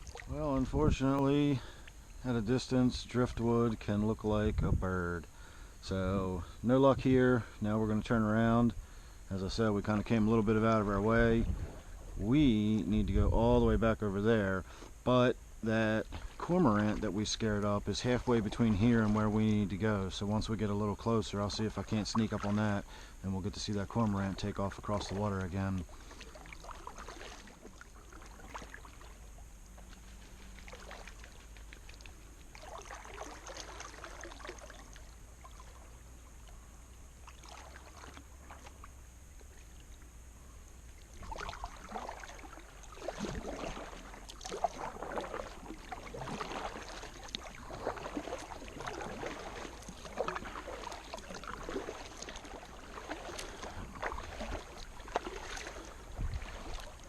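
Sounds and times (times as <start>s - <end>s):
paddle strokes splashing: 0.0s - 3.5s, 9.0s - 12.8s, 15.7s - 57.0s.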